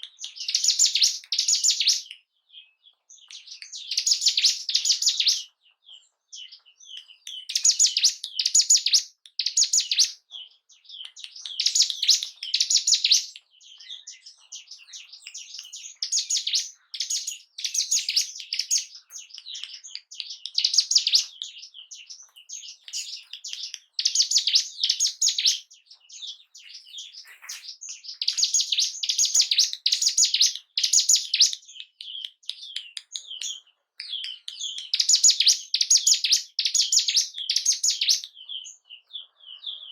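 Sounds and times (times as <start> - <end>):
bird chattering song: 0.0 - 39.9
soft bird chirps: 0.0 - 39.9.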